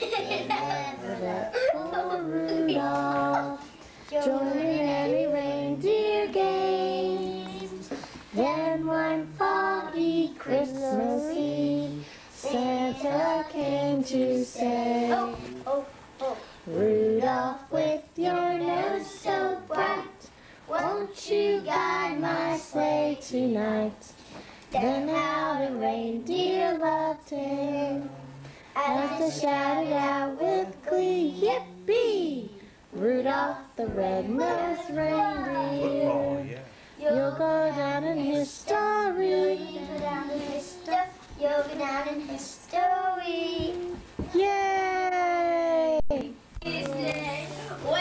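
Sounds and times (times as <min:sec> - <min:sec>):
child singing: 0:00.0 - 0:24.1, 0:24.7 - 0:44.5, 0:46.6 - 0:48.0.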